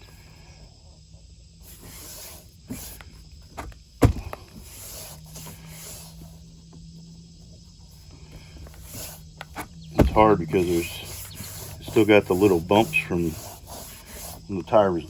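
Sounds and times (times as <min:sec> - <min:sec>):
hands rubbing tire: 0:01.6 - 0:15.0.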